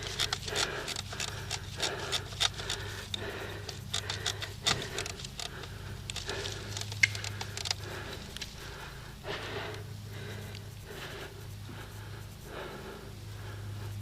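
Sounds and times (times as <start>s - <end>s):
gear rattling and rustling: 0.0s - 13.0s.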